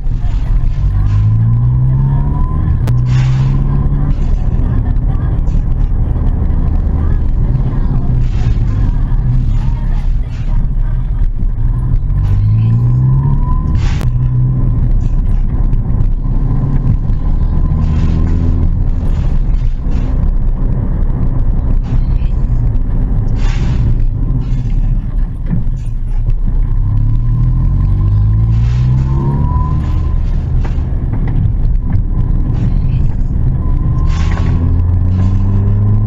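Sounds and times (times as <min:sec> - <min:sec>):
car engine pulling through gears: 0:00.0 - 0:36.0.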